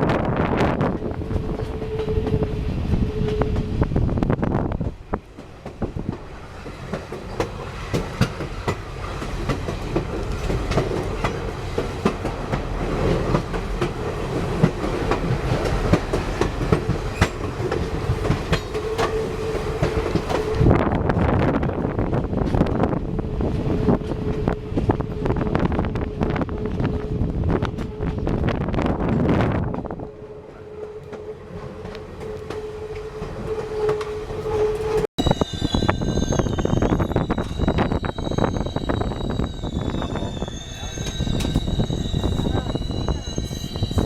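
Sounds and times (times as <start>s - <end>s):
train rumbling along track: 0.0s - 44.0s.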